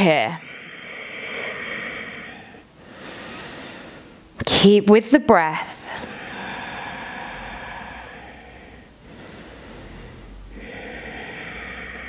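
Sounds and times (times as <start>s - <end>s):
woman breathing through nose: 0.4s - 4.3s, 5.8s - 12.0s.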